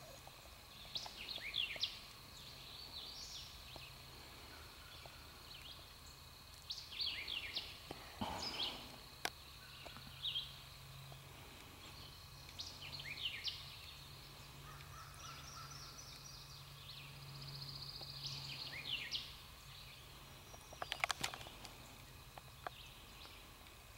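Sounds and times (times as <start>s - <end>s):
birds chirping: 0.0s - 23.9s
steady low hum: 0.0s - 23.9s.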